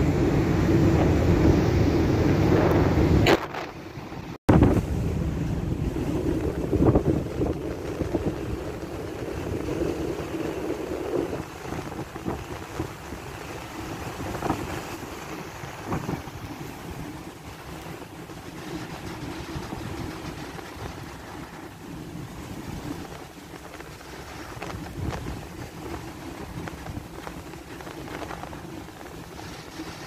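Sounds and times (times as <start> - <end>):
rough sea rushing: 0.0 - 30.0
wind buffeting microphone: 0.0 - 30.0.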